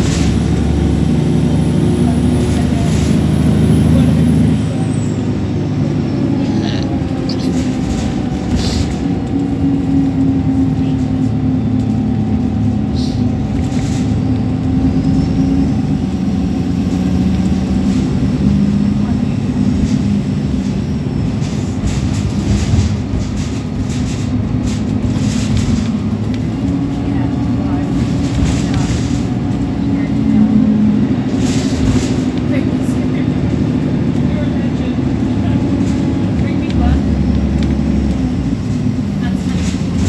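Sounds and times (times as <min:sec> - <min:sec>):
bus diesel engine drone and whine: 0:00.0 - 0:40.0.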